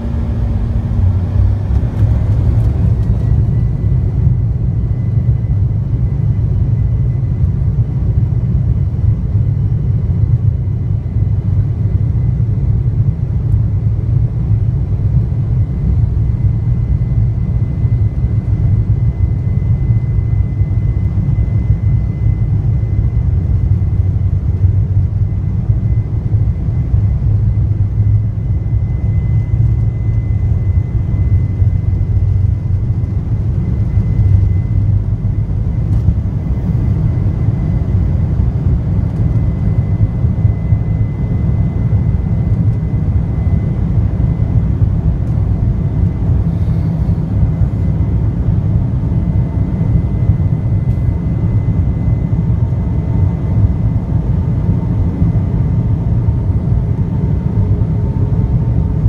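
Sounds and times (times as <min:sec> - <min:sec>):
jet engines at takeoff thrust: 0:00.0 - 0:59.0.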